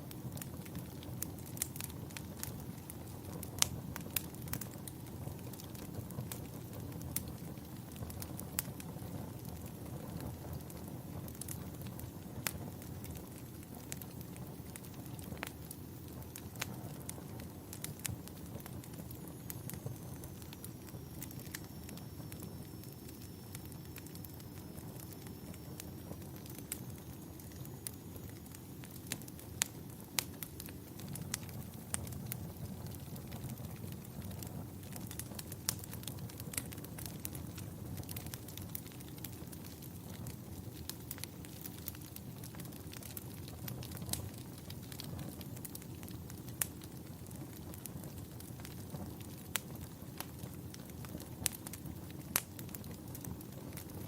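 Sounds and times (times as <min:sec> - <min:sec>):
burning wood crackling and popping: 0:00.0 - 0:54.0
campfire flames rumbling: 0:00.0 - 0:54.0.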